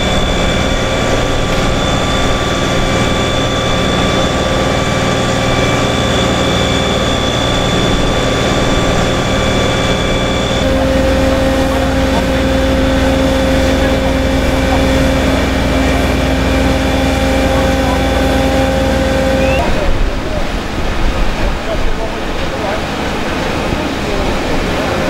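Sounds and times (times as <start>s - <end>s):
thin high whine: 0.0s - 21.0s
diesel engines and pumps droning: 0.0s - 25.0s
low hum: 0.0s - 25.0s.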